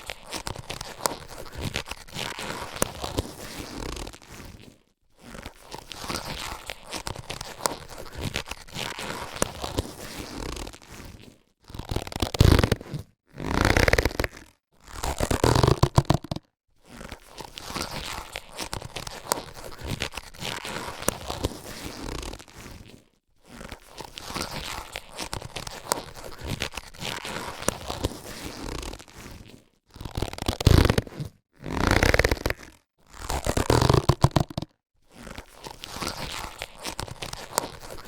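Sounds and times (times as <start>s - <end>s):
latex gloves rubbing and stretching: 0.0s - 38.0s.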